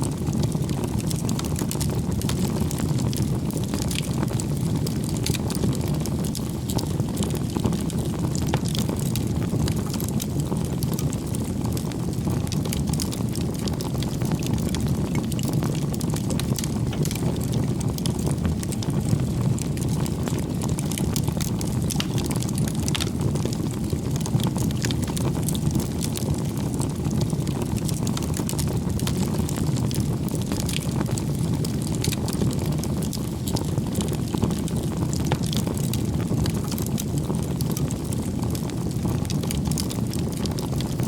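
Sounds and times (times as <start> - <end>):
burning logs crackling: 0.0 - 41.0
low rush of flames: 0.0 - 41.0.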